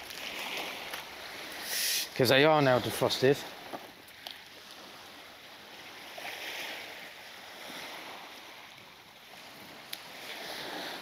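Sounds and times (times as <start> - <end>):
small waves washing on shore: 0.0 - 11.0
wind: 0.0 - 11.0.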